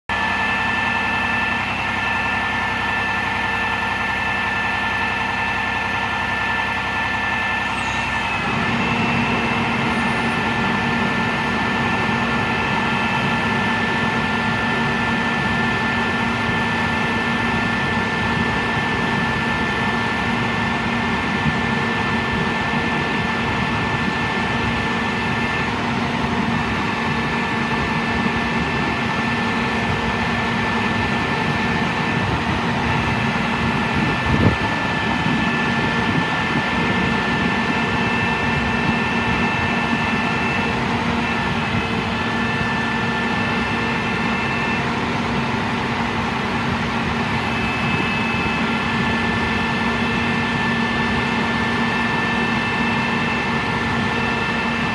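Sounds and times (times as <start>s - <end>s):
diesel truck engine running: 0.1s - 54.9s
high-pitched hydraulic whines: 0.1s - 54.9s.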